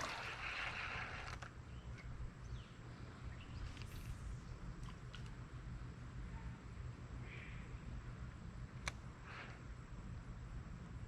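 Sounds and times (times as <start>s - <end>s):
faint creekside ambience: 0.0s - 11.0s.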